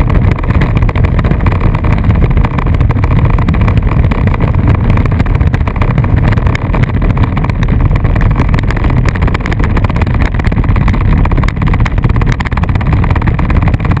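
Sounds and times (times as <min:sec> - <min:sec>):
toy car rumbling over asphalt: 0:00.0 - 0:14.0.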